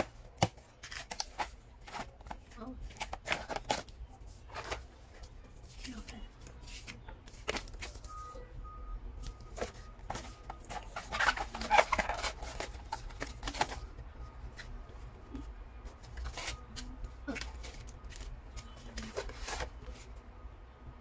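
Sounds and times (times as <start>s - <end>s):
paper and cardboard rustling: 0.0s - 8.2s, 9.3s - 14.8s, 15.4s - 20.2s.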